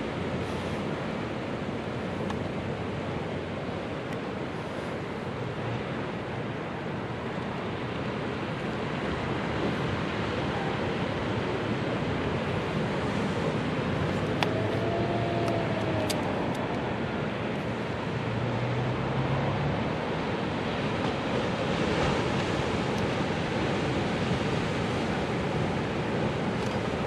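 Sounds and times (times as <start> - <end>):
small waves washing on beach: 0.0 - 27.0.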